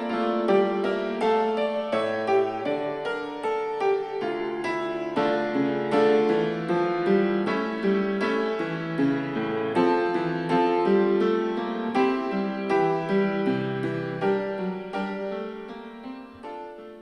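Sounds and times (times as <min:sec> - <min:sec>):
piano music through speakers: 0:00.0 - 0:17.0.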